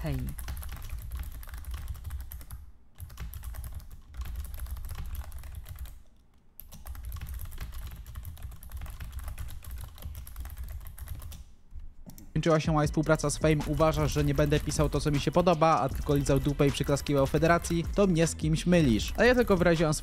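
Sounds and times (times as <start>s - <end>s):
fast typing on keyboard: 0.0s - 11.5s, 13.1s - 18.0s, 18.9s - 20.0s.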